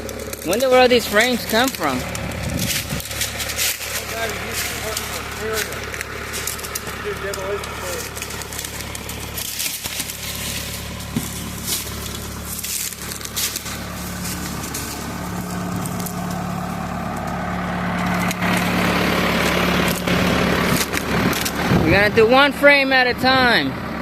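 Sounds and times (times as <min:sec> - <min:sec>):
crackling and knocking of brush: 0:00.0 - 0:21.8
backhoe engine running: 0:00.0 - 0:24.0.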